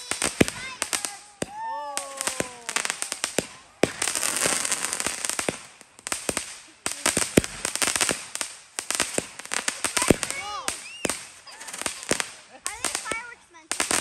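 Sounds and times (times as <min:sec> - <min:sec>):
fireworks crackling: 0:00.0 - 0:14.0
fireworks pops and bangs: 0:00.0 - 0:14.0.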